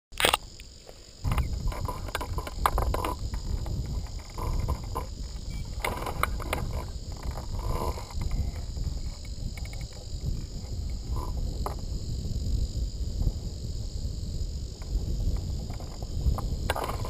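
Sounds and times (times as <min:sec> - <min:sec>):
insects chirring: 0:00.1 - 0:17.0
wind buffeting microphone: 0:00.4 - 0:17.0.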